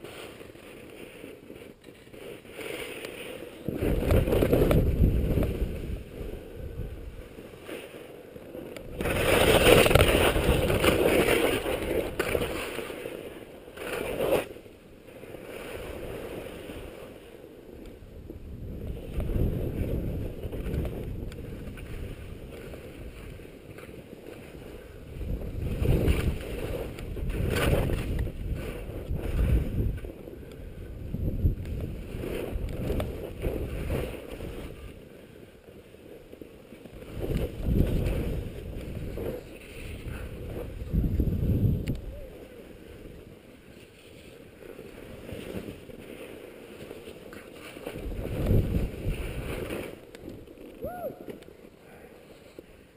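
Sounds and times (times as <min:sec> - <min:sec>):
wind rumbling on microphone: 0:00.0 - 0:52.1
skis scraping over snow: 0:00.0 - 0:52.9.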